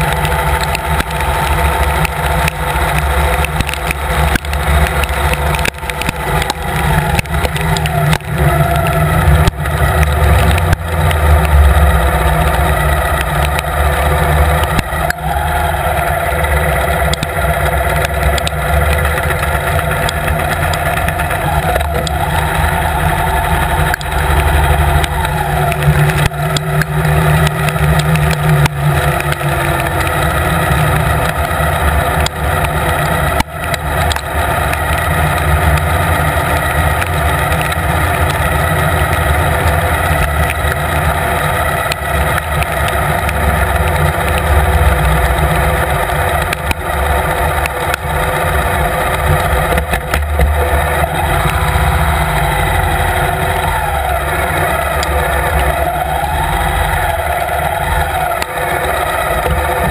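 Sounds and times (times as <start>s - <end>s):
sharp taps: 0.0s - 15.3s, 16.0s - 59.9s
motorcycle engine running: 0.0s - 59.9s
tyres hissing on wet road: 0.0s - 59.9s.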